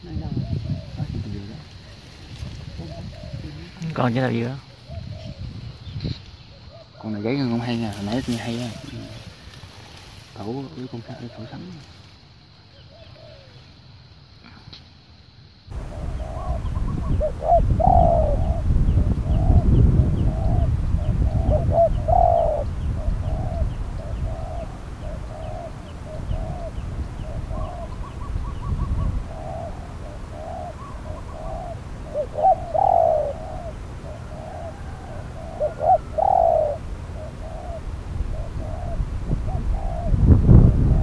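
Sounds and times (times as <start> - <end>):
doves cooing: 0.0 - 12.0, 12.6 - 13.7, 15.7 - 41.0
small birds chirping: 0.0 - 41.0.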